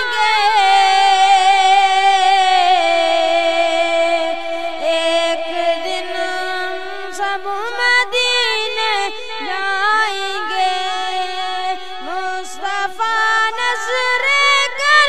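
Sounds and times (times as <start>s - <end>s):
boy singing unaccompanied: 0.0s - 15.0s.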